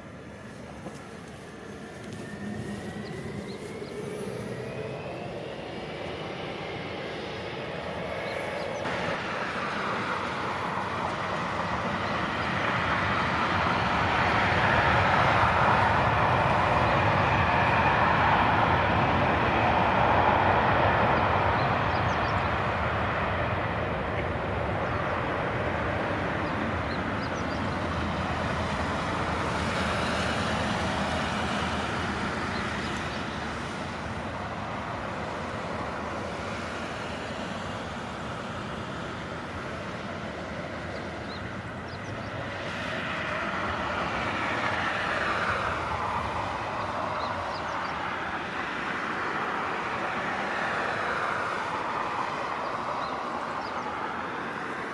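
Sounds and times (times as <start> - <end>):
jet engine roar at takeoff: 0.0 - 54.9.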